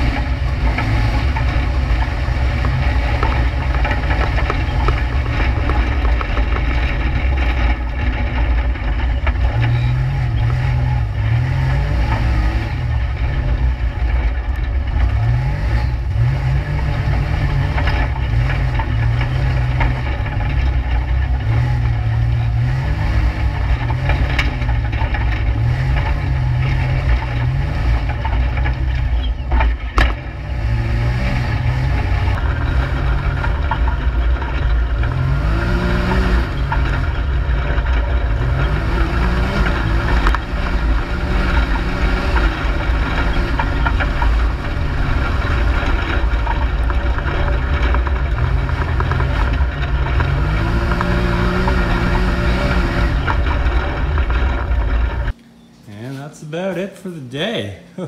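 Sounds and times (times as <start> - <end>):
engine revving on dirt track: 0.0 - 55.6.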